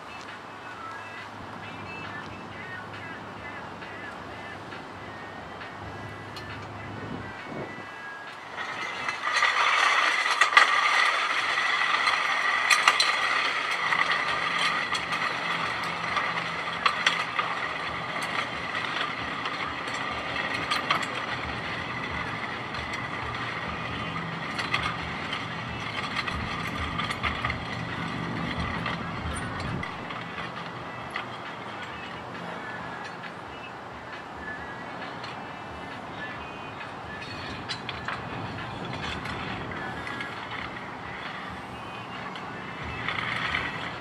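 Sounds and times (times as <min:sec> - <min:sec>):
metal sled scraping on asphalt: 0:00.0 - 0:44.0.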